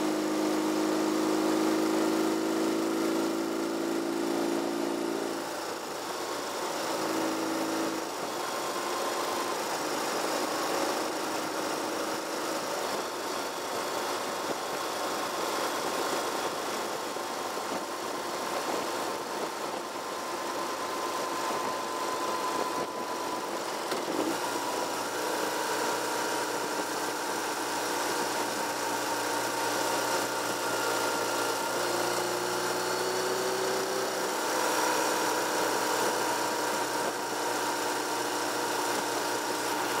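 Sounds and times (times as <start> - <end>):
car engine: 0.0 - 40.0
tyre noise on road: 0.1 - 32.4.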